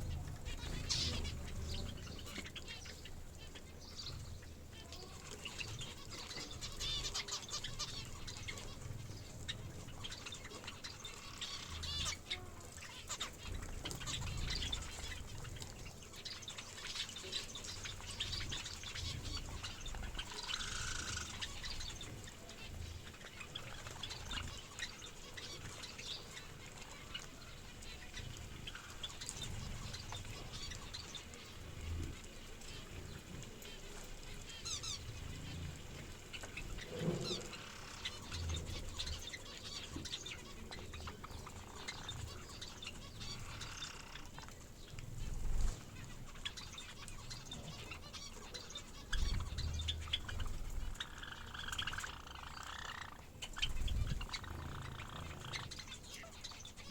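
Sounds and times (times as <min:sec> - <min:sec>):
birds chirping and twittering: 0:00.0 - 0:56.9.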